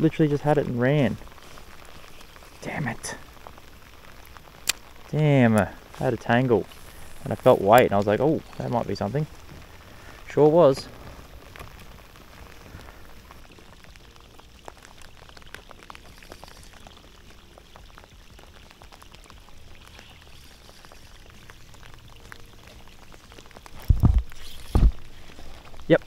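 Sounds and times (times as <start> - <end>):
close raindrop ticks: 0.0 - 26.0
rain falling on water: 0.0 - 26.0.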